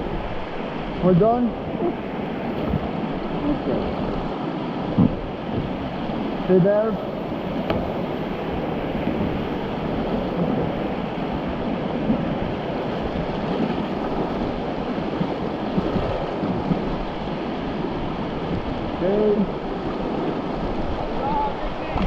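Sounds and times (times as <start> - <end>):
whitewater rushing: 0.0 - 22.0.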